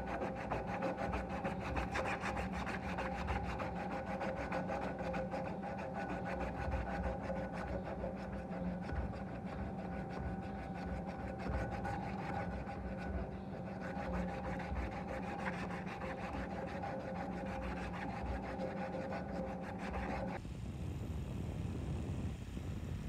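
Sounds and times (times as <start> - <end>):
sandpaper rubbing on wood: 0.0 - 20.4.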